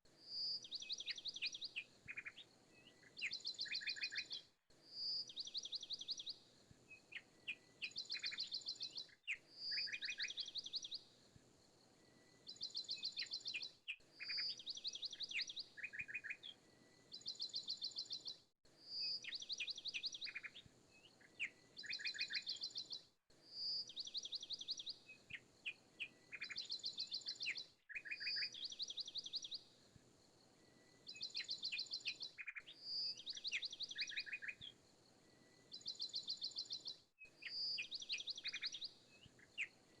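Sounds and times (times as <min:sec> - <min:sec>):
birds chirping and trilling: 0:00.4 - 0:11.1, 0:12.5 - 0:18.4, 0:19.0 - 0:29.7, 0:30.8 - 0:34.8, 0:35.5 - 0:40.0.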